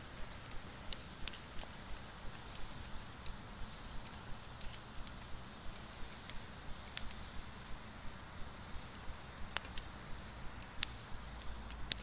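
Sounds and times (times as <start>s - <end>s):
charcoal embers crackling and popping: 0.0s - 12.0s
faint steady hiss: 0.0s - 12.0s.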